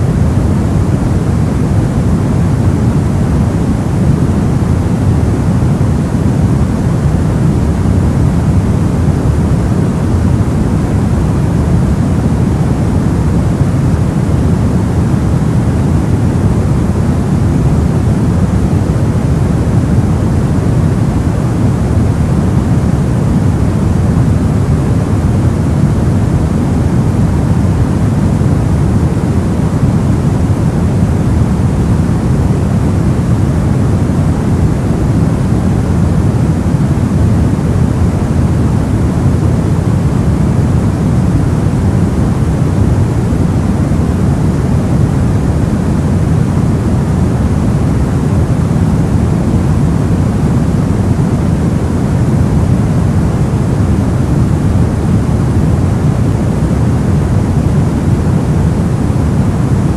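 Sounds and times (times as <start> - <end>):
low muffled white noise: 0.0 - 59.9.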